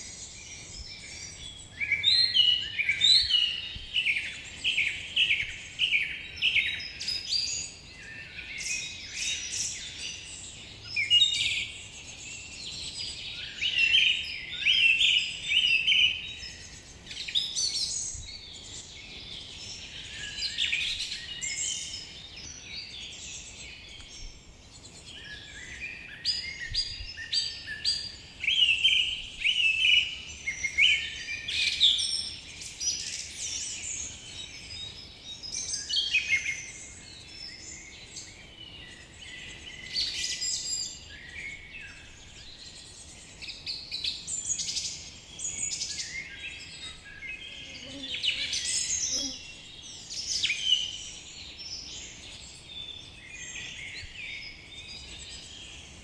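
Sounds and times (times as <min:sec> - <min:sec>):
birds chirping and whistling: 0:00.0 - 0:56.0.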